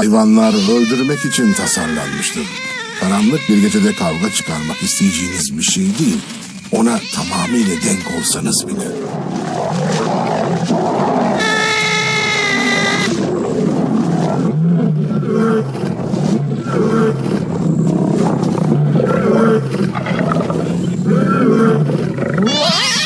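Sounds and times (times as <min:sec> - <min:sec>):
cats growling and snarling: 0:00.0 - 0:11.4, 0:13.2 - 0:23.0.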